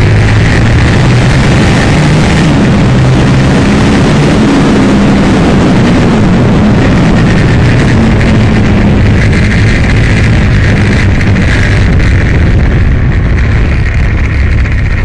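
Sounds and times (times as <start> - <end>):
motorcycle engine running hard: 0.0 - 15.0
rush of wind noise: 0.0 - 15.0.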